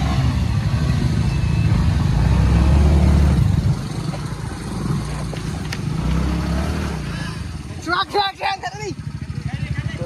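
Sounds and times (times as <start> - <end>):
vehicle engine running hard: 0.0 - 10.0.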